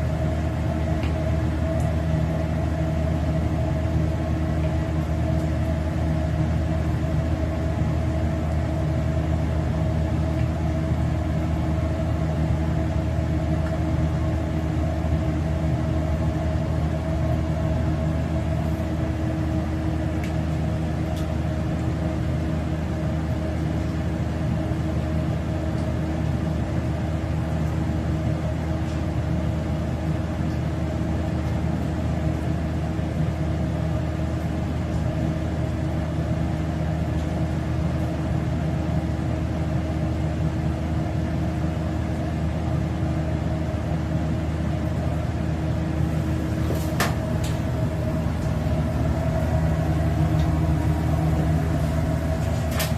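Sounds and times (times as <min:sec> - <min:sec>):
steady machine hum: 0:00.0 - 0:52.9.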